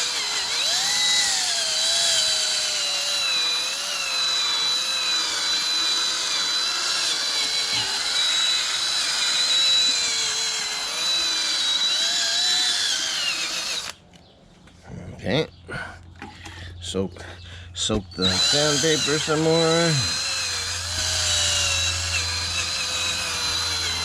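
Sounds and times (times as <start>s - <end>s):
cordless drill sanding plastic: 0.0s - 14.0s, 18.0s - 24.0s.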